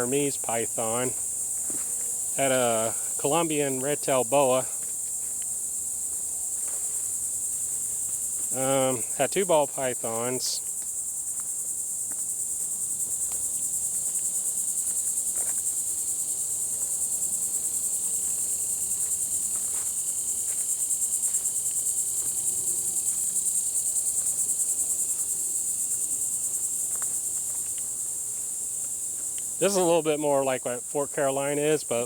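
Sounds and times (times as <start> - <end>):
insect chorus pulsing drone: 0.0 - 32.0.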